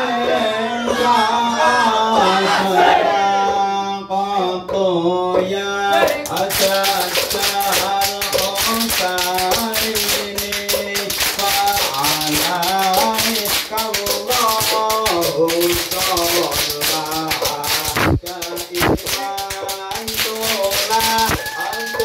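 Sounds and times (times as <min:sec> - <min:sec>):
men singing a chant: 0:00.0 - 0:22.0
rhythmic hand-clapping: 0:00.0 - 0:22.0.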